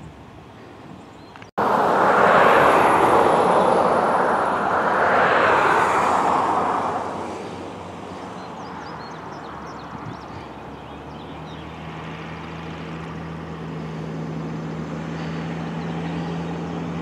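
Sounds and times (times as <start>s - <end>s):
road traffic passing close: 0.0s - 17.0s.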